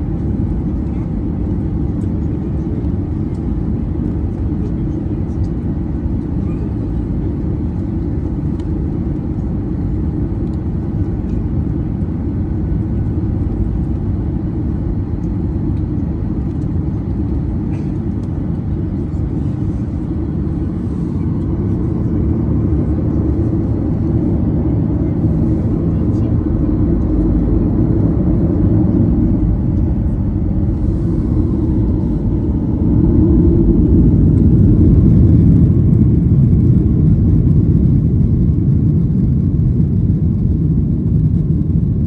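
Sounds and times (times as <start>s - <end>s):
airliner engine rumble in cabin: 0.0s - 42.0s.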